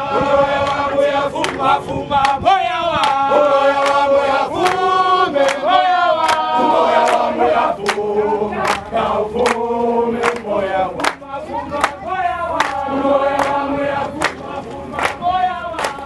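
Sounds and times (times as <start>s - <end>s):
crowd singing: 0.0s - 16.0s
hand claps keeping time: 1.4s - 2.4s, 3.0s - 3.2s, 3.8s - 12.0s, 12.6s - 16.0s.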